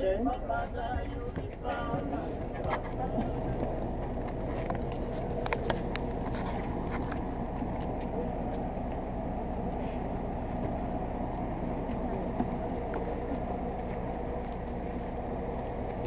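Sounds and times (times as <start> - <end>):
coach engine idling: 0.0 - 16.0.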